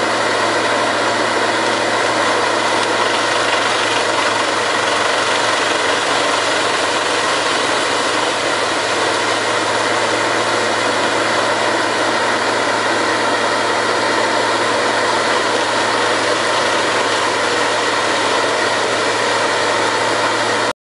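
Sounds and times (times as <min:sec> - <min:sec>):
wood chipper running: 0:00.0 - 0:20.7.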